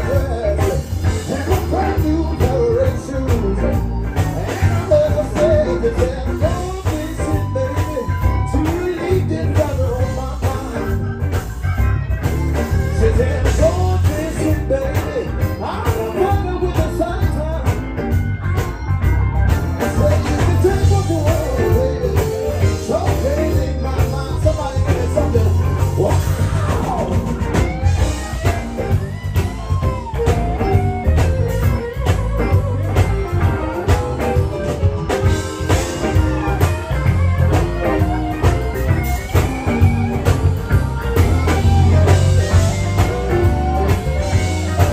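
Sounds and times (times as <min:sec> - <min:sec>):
bending lead guitar melody: 0:00.0 - 0:44.9
live electric blues band: 0:00.0 - 0:44.9.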